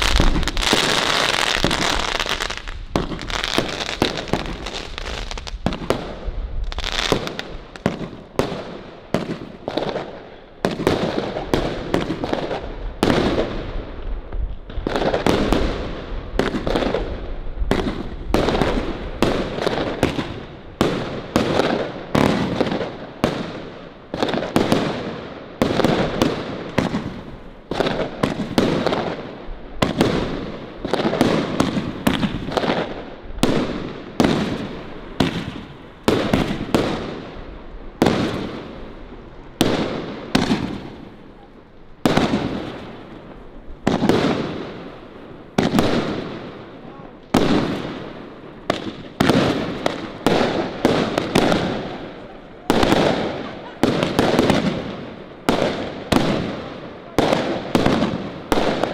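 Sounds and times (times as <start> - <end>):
fireworks firing sharp bangs: 0.0 - 58.9.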